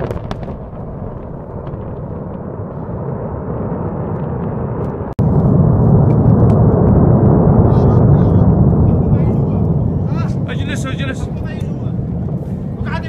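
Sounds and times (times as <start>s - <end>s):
deep rumble of large blast: 0.0s - 13.0s
explosion rumble: 0.0s - 13.0s.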